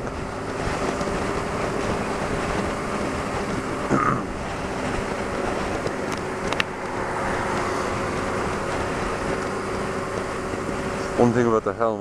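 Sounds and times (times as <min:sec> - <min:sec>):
motorcycle engine drone: 0:00.0 - 0:12.0
wind rushing over microphone: 0:00.0 - 0:12.0.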